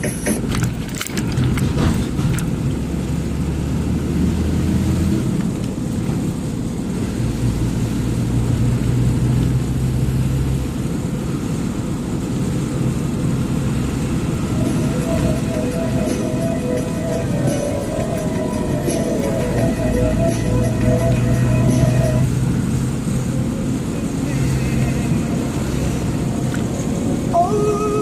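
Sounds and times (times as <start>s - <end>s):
road noise: 0.0s - 28.0s
truck engine rumble: 0.0s - 28.0s.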